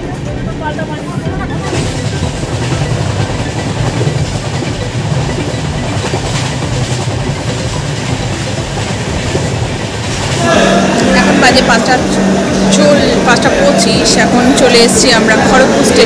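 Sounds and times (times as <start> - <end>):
train wheels rumbling: 0.0 - 16.0
faint rail clacks: 1.4 - 16.0.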